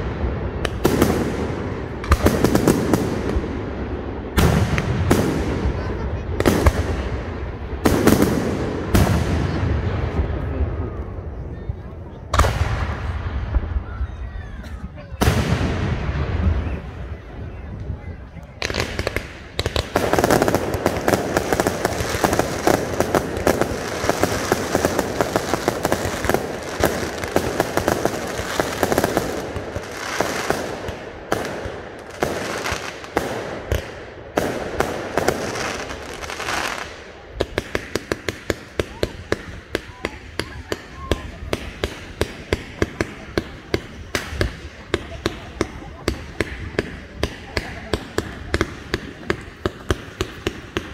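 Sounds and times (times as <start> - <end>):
sharp fireworks pops: 0.0 - 3.5, 4.3 - 11.1, 12.3 - 13.8, 17.7 - 50.9
fireworks bursting and crackling: 0.0 - 50.9.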